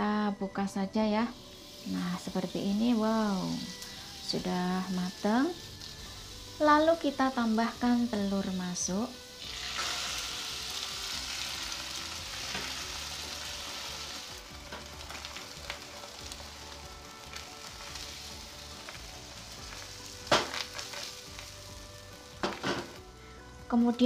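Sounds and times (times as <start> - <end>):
egg sizzling in frying pan: 1.3 - 23.6.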